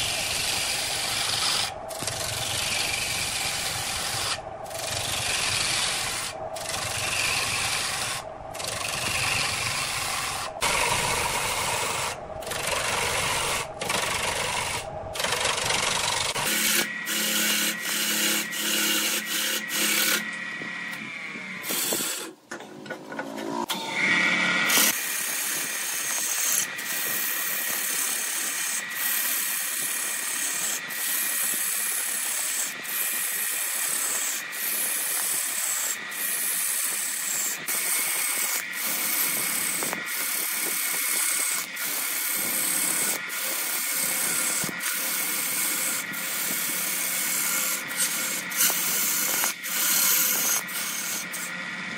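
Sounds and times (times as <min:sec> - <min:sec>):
chisel scraping wood on lathe: 0:00.0 - 0:20.8, 0:21.6 - 0:23.2, 0:24.7 - 0:51.6.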